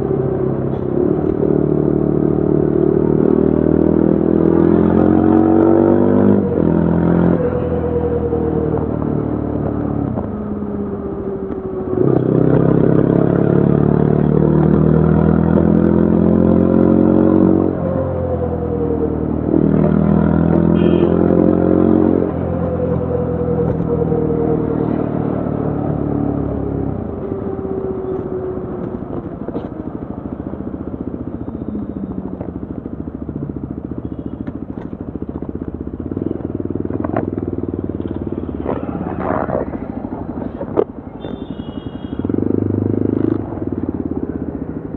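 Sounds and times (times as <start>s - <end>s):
motorcycle engine and exhaust: 0.0s - 44.9s.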